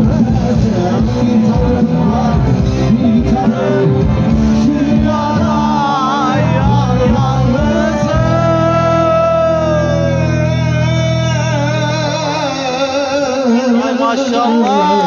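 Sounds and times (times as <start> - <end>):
bass guitar: 0.0 - 15.0
live band music: 0.0 - 15.0
man singing into a microphone: 0.0 - 15.0.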